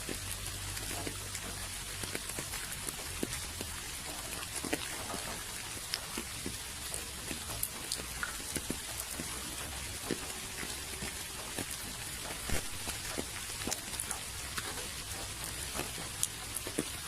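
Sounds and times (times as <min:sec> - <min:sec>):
raindrops tapping on a surface: 0:00.0 - 0:17.0
steady rain: 0:00.0 - 0:17.0.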